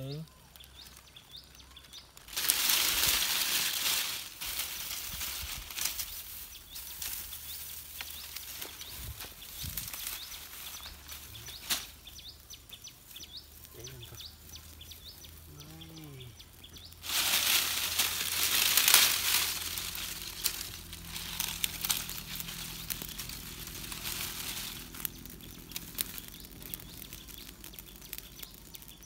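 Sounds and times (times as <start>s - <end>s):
campfire crackling and popping: 0.0s - 29.0s
fire flaring up: 0.4s - 29.0s.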